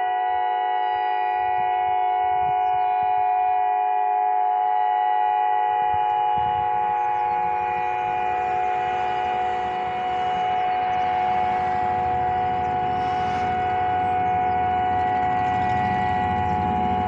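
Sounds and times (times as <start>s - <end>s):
sirens howling: 0.0s - 17.0s.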